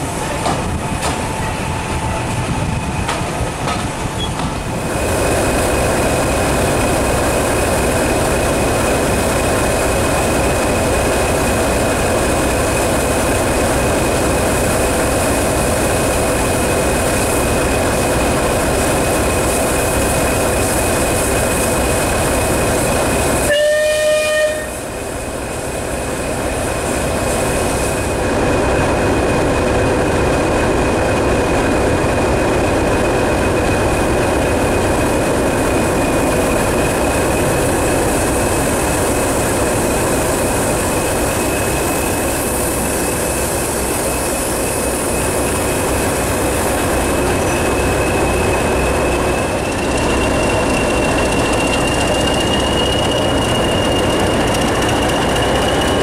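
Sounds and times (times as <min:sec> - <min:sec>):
diesel locomotive engine running: 0:00.0 - 0:56.0
steam locomotive rolling past: 0:00.0 - 0:56.0.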